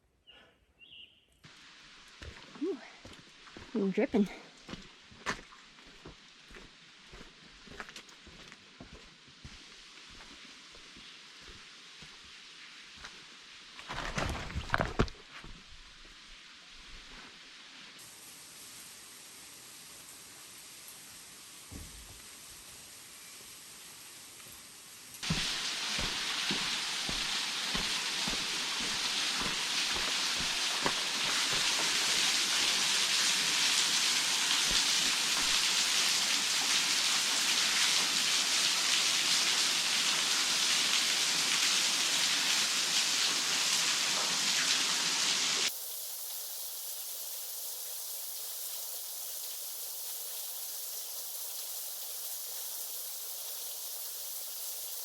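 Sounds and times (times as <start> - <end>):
small waterfall splashing: 1.5 - 55.0.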